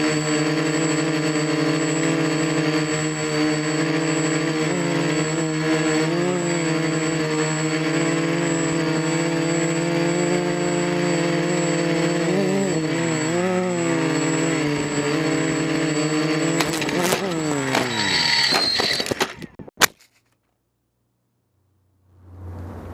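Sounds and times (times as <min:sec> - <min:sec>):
drone motors whining: 0:00.0 - 0:19.6.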